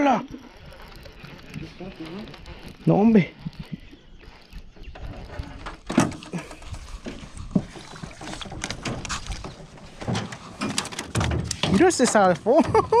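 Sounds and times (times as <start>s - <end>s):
knocks and clatter in a boat: 0.0s - 13.0s.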